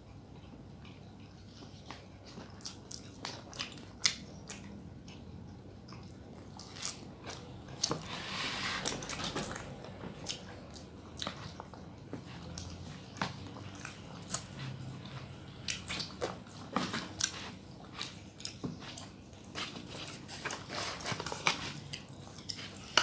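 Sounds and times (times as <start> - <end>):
chewing with crisp crunches: 0.0 - 23.0.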